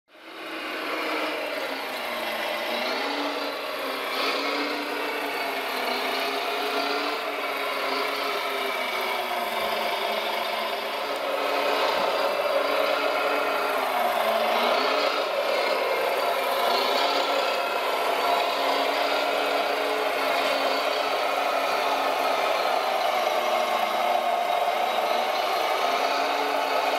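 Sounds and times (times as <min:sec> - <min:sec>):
toy wheel loader engine: 0:00.1 - 0:26.9.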